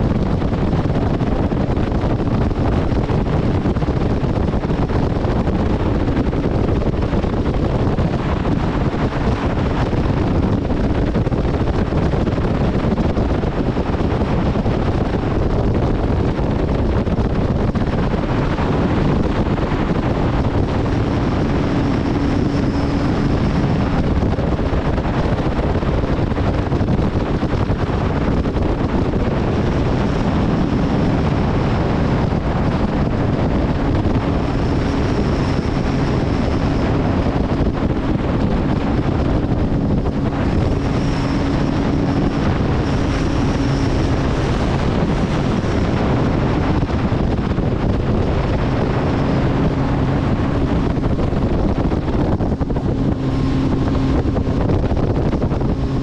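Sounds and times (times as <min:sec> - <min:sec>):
outboard engine hum: 0:00.0 - 0:56.0
water noise: 0:00.0 - 0:56.0
wind rushing over microphone: 0:00.0 - 0:56.0.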